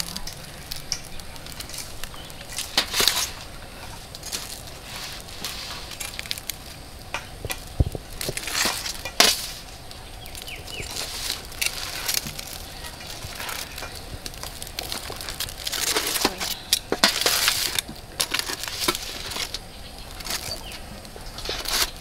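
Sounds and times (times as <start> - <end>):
rustling scrape: 0.0 - 6.9, 7.6 - 22.0.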